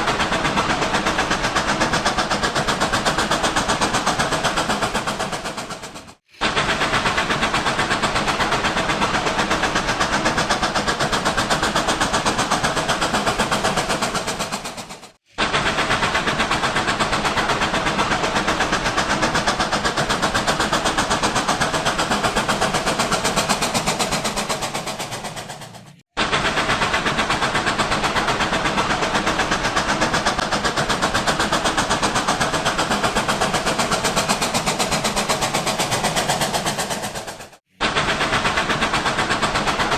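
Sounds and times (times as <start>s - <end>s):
rapid fine clicking: 0.0s - 39.9s
toy train motor whirring: 0.0s - 39.9s.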